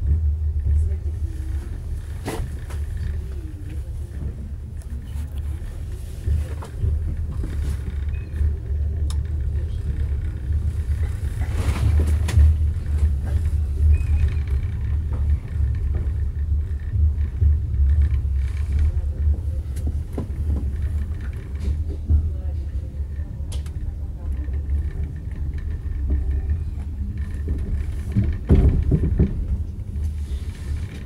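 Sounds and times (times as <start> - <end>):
train carriage rumbling on track: 0.0 - 31.0.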